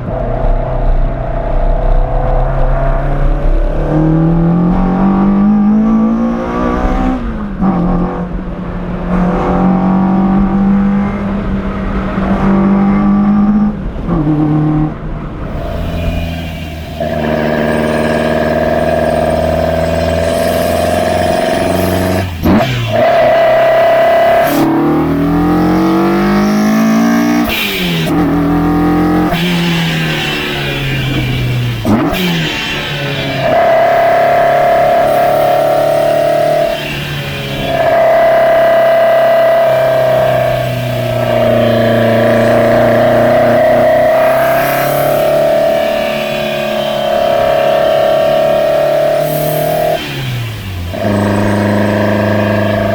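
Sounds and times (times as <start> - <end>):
four-cylinder engine running high: 0.0 - 52.9.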